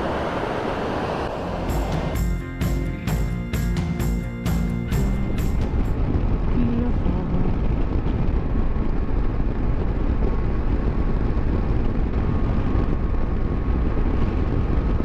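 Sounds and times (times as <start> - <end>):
wind rushing on microphone: 0.0 - 2.3, 5.0 - 15.0
road noise: 0.0 - 15.0
motorcycle engine running: 1.4 - 14.6.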